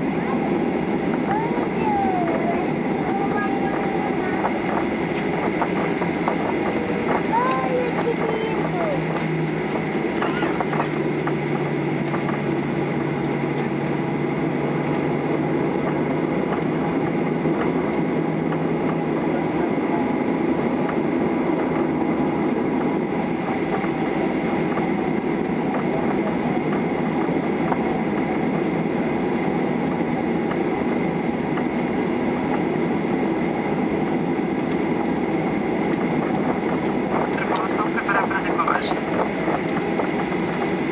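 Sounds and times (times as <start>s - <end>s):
jet engine high whine: 0.0s - 40.9s
low hum: 0.0s - 40.9s
wheels rumbling on taxiway: 0.0s - 40.9s.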